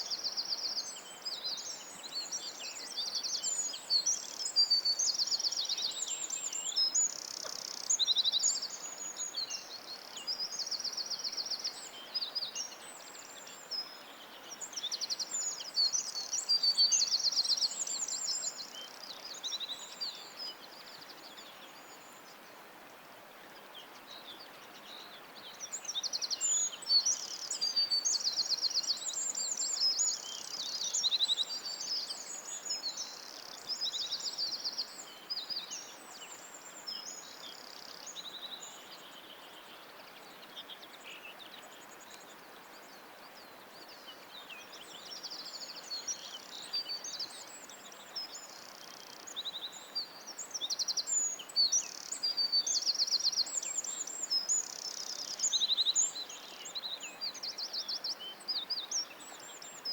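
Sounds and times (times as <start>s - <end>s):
songbirds trilling and chirping: 0.0s - 22.4s, 23.5s - 59.9s
faint steady hiss: 0.0s - 59.9s.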